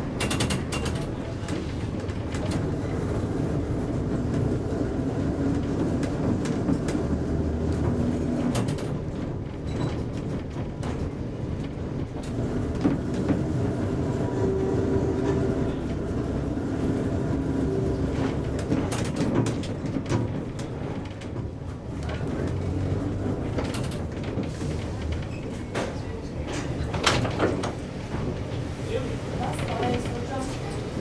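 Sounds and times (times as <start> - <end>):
knocks and rattles of wheels on rails: 0.0 - 31.0
tram rumbling and humming: 0.0 - 31.0.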